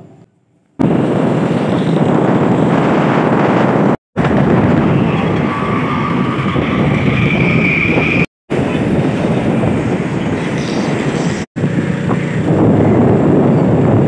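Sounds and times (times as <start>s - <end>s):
road and traffic noise: 0.0s - 14.0s
wind on microphone: 0.8s - 14.0s.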